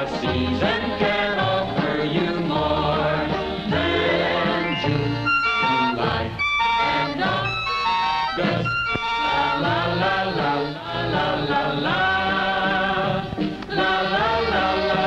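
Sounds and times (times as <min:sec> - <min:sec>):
male vocal group singing: 0:00.0 - 0:07.7, 0:08.4 - 0:15.0
instrumental backing: 0:00.0 - 0:15.0.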